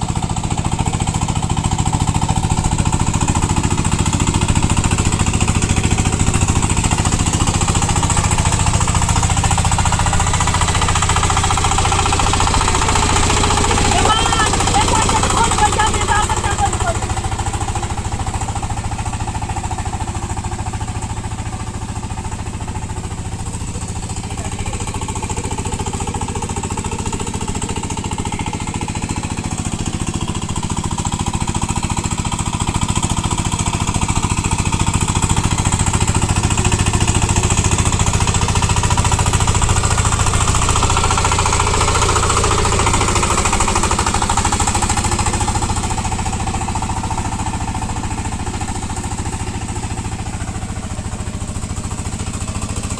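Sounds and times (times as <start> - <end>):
diesel tiller engine chugging: 0.0 - 52.9.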